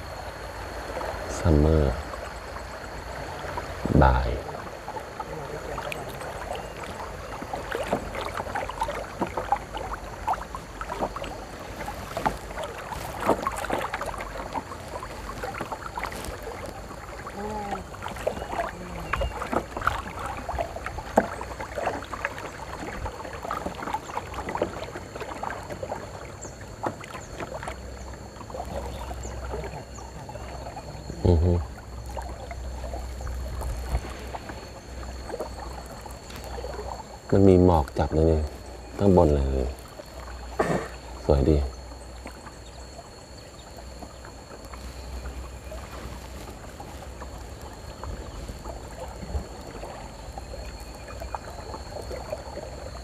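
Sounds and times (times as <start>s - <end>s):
moving water: 0.0s - 53.0s
paddles splashing in water: 0.0s - 53.0s.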